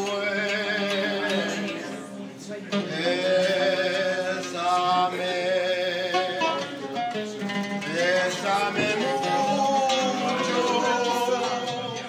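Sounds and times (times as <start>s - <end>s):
man singing slow song: 0.0s - 12.0s
plucked oud: 0.0s - 12.0s.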